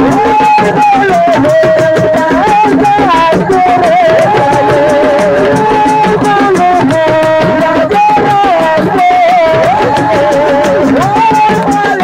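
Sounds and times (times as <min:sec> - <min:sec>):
fast drum percussion: 0:00.0 - 0:12.0.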